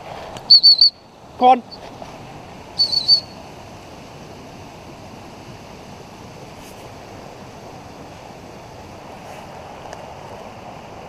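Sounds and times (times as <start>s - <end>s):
fast-flowing stream rushing: 0.0s - 11.0s.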